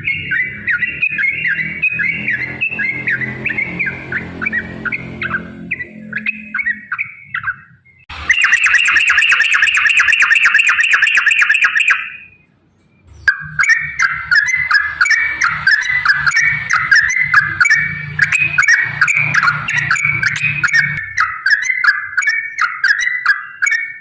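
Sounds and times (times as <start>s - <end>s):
bird singing trills and warbles: 0.0s - 24.0s.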